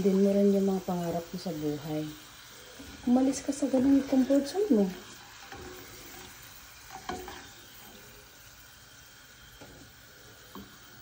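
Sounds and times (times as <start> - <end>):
fries sizzling in oil: 0.0 - 11.0
spatula scraping pan: 2.1 - 11.0.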